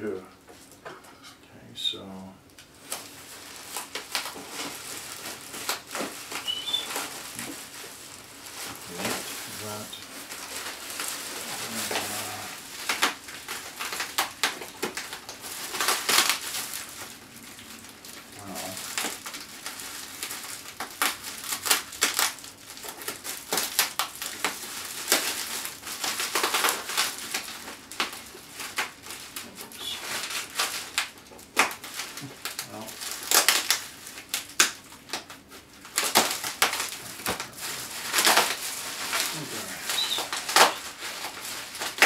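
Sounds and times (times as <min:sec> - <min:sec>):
bubble wrap crackling: 0:02.5 - 0:42.0
scissors cutting bubble wrap: 0:02.9 - 0:07.6, 0:08.5 - 0:17.0, 0:18.0 - 0:42.0.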